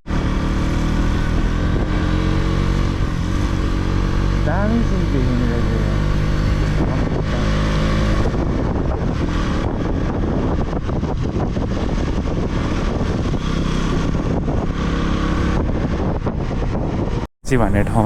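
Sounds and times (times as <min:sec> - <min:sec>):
wind and road noise: 0:00.0 - 0:18.0
motorcycle engine running: 0:00.1 - 0:18.0.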